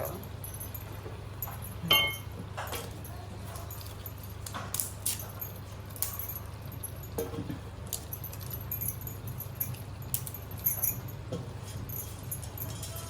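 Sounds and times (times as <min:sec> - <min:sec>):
kitchen utensils clinking: 0:00.0 - 0:13.0
steady low hum: 0:00.0 - 0:13.0.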